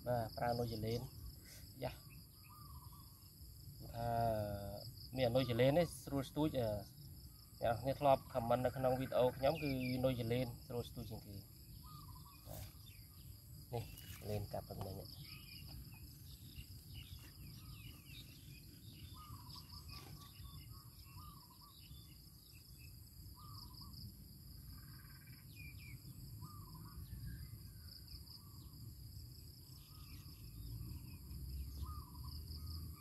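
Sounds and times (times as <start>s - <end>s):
insects droning: 0.0s - 33.0s
short chirping calls: 0.1s - 4.2s, 7.6s - 28.8s, 29.6s - 33.0s.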